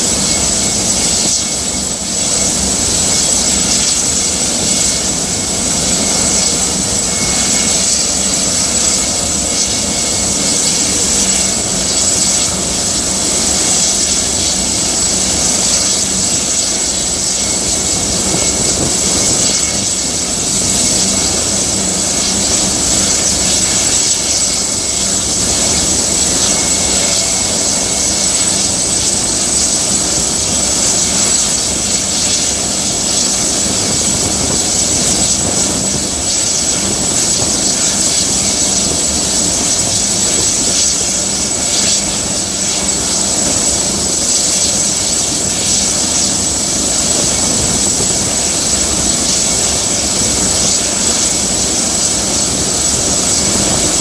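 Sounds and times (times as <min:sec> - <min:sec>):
helicopter engine and rotor: 0:00.0 - 0:54.0
high whine: 0:00.0 - 0:54.0.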